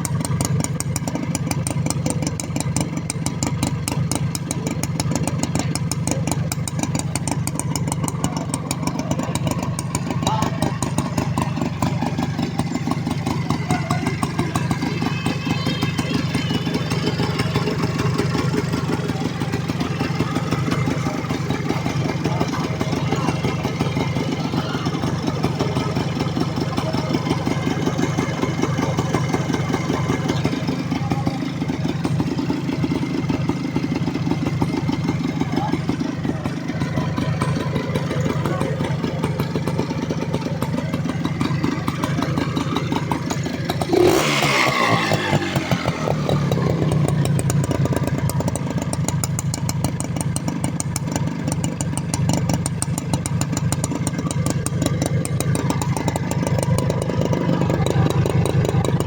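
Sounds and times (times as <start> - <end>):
motorcycle engine idling: 0.0 - 59.0
motorcycle engine revving: 0.0 - 59.0.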